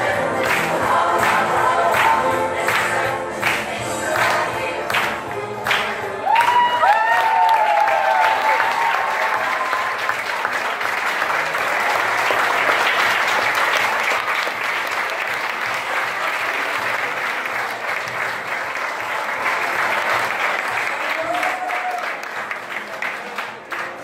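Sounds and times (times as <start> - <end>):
audience applauding: 0.4 - 24.0.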